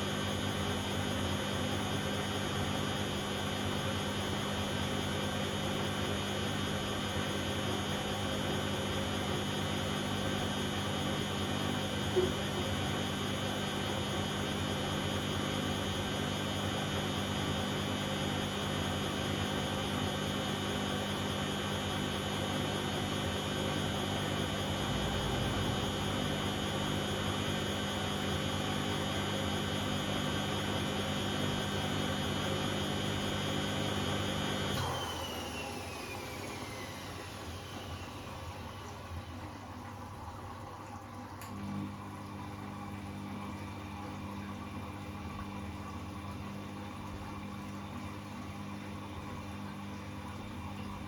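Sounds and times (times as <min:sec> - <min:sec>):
washing machine spinning whine: 0:00.0 - 0:51.0.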